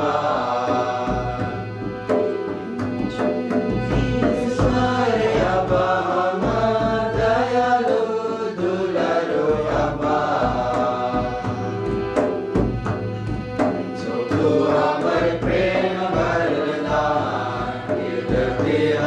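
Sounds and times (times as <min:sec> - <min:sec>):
hymn sung with accompaniment: 0:00.0 - 0:19.0.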